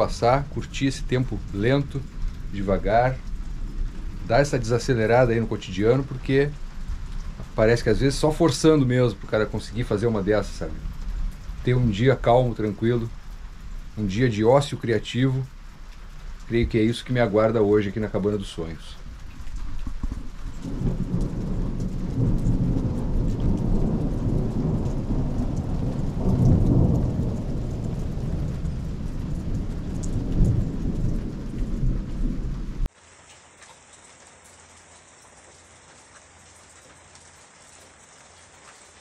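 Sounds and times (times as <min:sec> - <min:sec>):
thunder rumbling: 0:00.0 - 0:32.9
heavy rain: 0:00.0 - 0:39.0.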